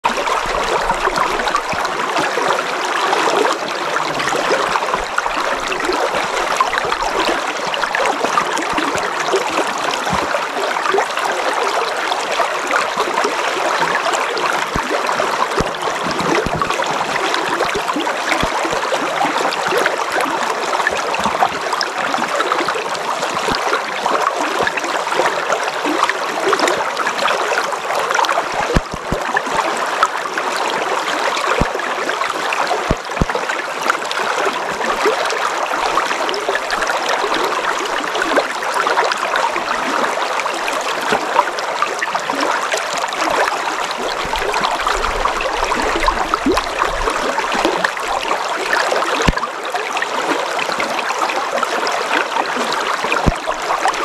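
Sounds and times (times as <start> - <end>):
river flowing: 0.1 - 54.0.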